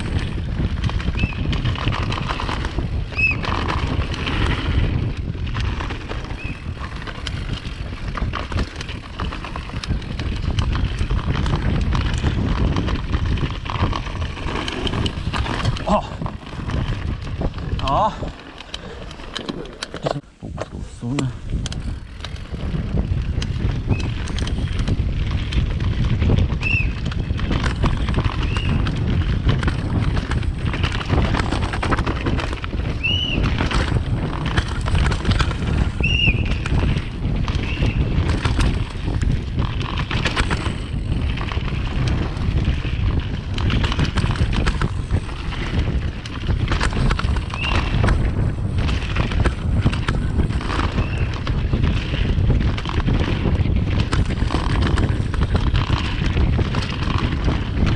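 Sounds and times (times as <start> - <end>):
bike rattling over rough ground: 0.0 - 57.9
wind rushing on microphone: 0.0 - 57.9.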